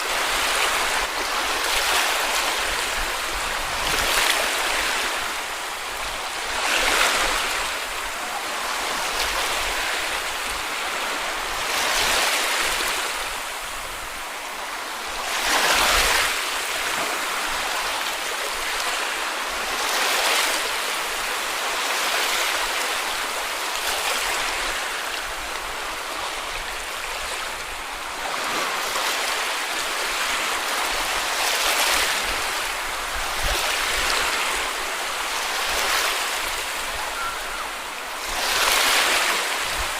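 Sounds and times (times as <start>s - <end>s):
small waves breaking on beach: 0.0s - 39.9s
surf hiss: 0.0s - 39.9s.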